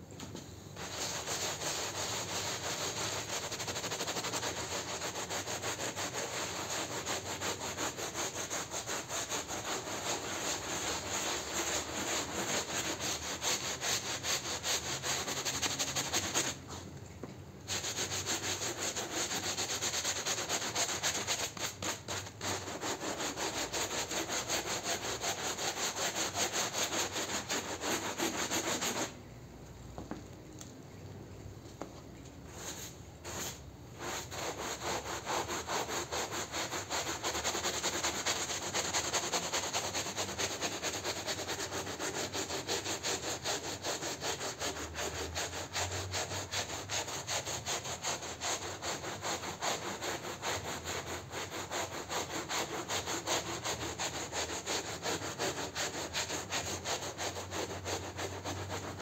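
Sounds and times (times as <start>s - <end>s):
brush scrubbing wet rug: 0.8s - 16.6s, 17.7s - 29.1s, 32.5s - 59.0s.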